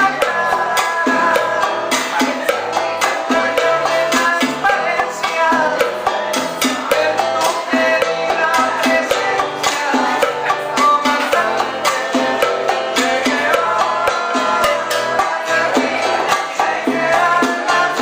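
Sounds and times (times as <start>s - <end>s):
live band playing cuban music: 0.0s - 18.0s
percussion beat: 0.0s - 18.0s.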